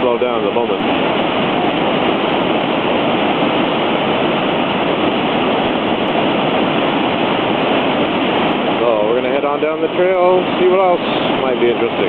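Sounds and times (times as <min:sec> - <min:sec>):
flooded creek and waterfall rushing: 0:00.0 - 0:12.0.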